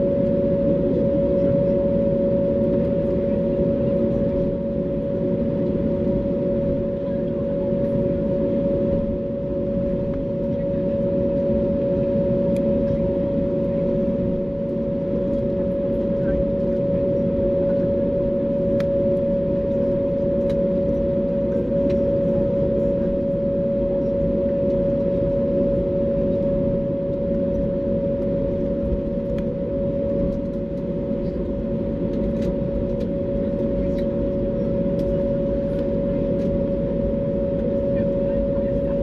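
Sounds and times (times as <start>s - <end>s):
idling jet engines drone: 0.0s - 39.0s
mid-pitched whine: 0.0s - 39.0s.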